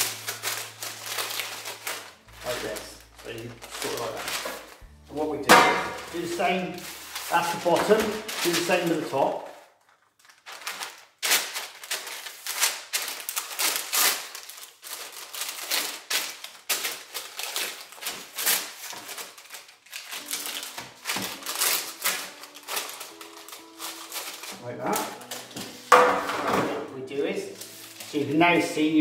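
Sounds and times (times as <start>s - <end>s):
baking paper crinkling: 0.0s - 29.0s.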